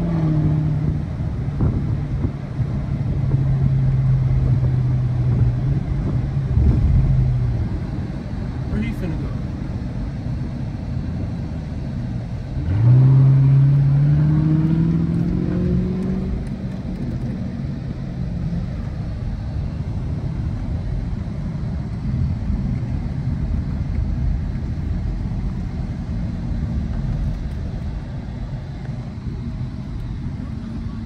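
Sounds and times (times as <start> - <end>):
car engine accelerating: 0.0 - 10.6, 11.9 - 31.0
road rumble: 0.0 - 31.0.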